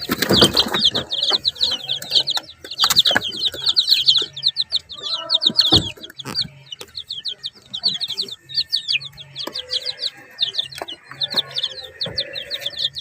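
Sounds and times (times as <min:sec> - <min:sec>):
ducklings and chicks peeping: 0:00.0 - 0:13.0.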